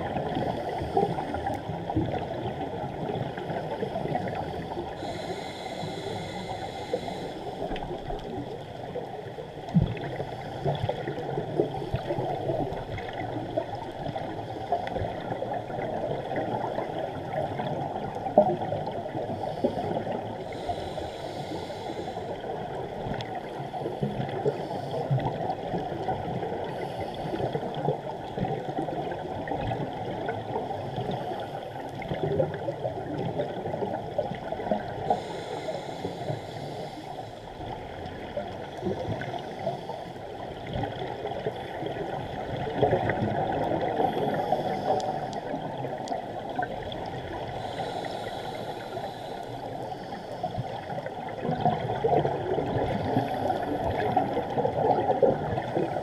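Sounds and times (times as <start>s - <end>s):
muffled underwater rush: 0.0s - 56.0s
scuba bubbles hissing: 0.1s - 8.6s, 9.9s - 27.8s, 28.7s - 37.5s, 40.6s - 56.0s.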